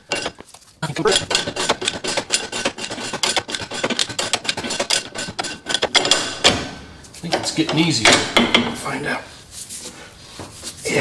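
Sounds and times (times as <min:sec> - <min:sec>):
bushing scraping and creaking in press: 0:00.0 - 0:08.9.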